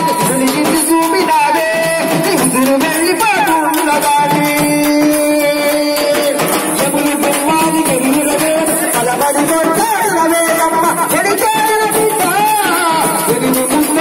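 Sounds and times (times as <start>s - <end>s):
frame drums beaten in rhythm: 0.0s - 14.0s
man singing into a microphone: 0.0s - 14.0s.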